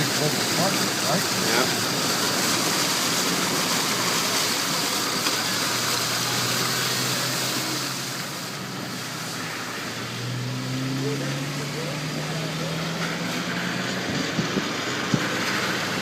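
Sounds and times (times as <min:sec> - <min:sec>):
low engine hum: 0:00.0 - 0:16.0
tyres hissing through water: 0:00.0 - 0:16.0.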